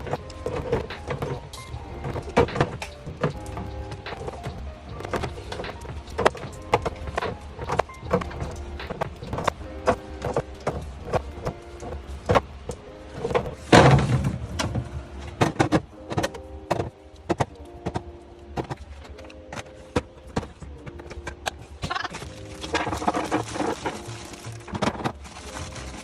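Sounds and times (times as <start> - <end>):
items clattering: 0.0 - 26.0
items clicking and knocking: 0.0 - 26.0
soft background music: 0.0 - 26.0.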